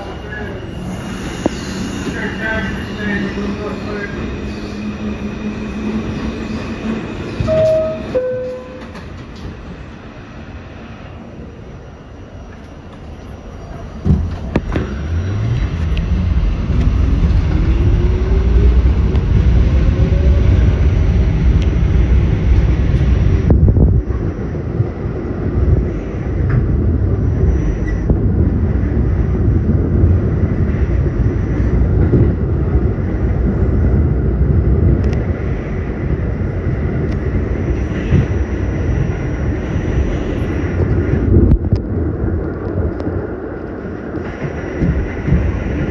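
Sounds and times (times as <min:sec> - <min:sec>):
wheels rumbling on rail: 0:00.0 - 0:45.9.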